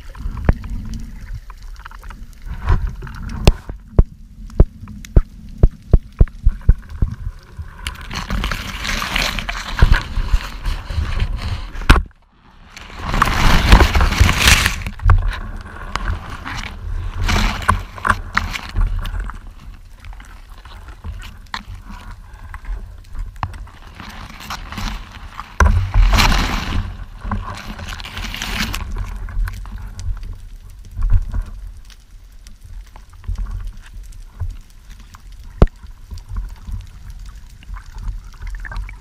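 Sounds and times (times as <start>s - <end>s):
muffled underwater water rushing: 0.0s - 39.0s.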